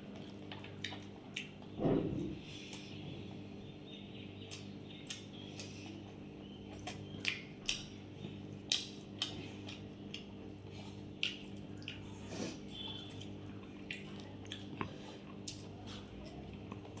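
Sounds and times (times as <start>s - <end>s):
steady low hum: 0.0s - 17.0s
person chewing with mouth clicks: 0.1s - 1.7s, 4.5s - 17.0s.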